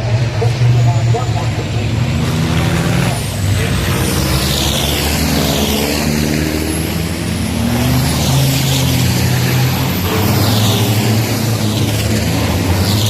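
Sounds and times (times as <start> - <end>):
high turbo whines: 0.0 - 13.0
truck engines revving: 0.0 - 13.0.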